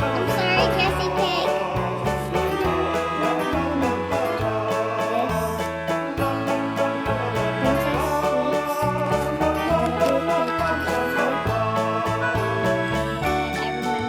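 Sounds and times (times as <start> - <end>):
background music with bass and keyboard: 0.0 - 14.0.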